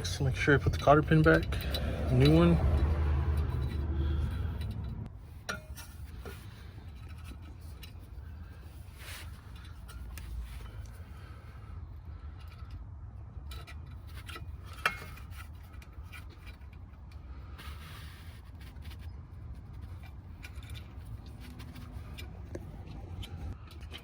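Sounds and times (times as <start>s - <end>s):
pliers clicking and scraping metal: 0.0s - 11.0s, 13.4s - 24.0s
low steady rumble: 0.0s - 24.0s.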